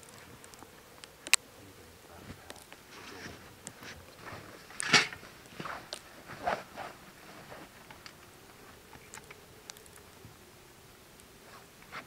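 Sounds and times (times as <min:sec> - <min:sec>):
backpacks and gear rustling: 0:00.0 - 0:12.0
faint ticks: 0:00.0 - 0:12.0.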